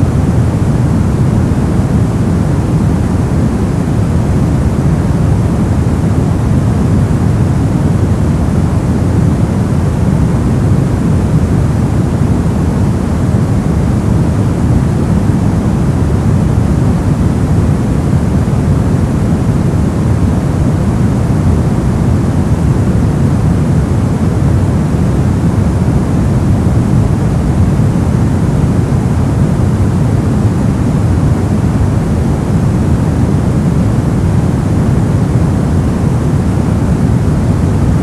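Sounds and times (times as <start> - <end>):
brown noise: 0.0 - 38.0.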